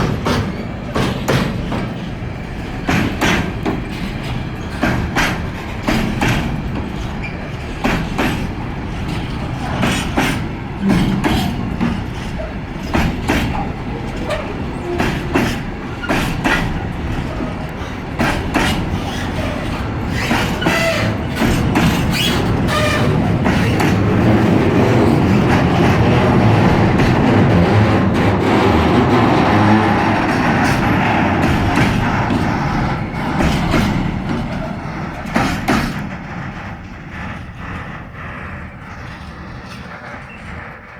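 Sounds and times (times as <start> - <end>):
freight train rumbling past: 0.0 - 40.9
train wheel squeals: 0.0 - 40.9
wheels clicking over rail joints: 0.0 - 40.9.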